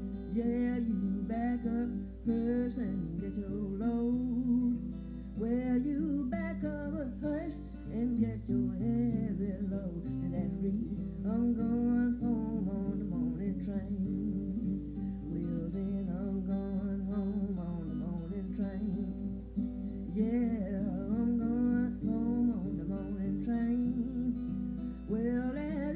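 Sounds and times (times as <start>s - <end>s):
acoustic guitar: 0.0s - 25.9s
woman singing: 0.0s - 25.9s.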